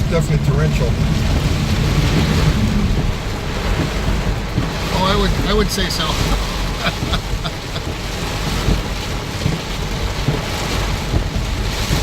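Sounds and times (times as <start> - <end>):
heavy rain on a car: 0.0 - 12.0
low car rumble: 0.0 - 12.0.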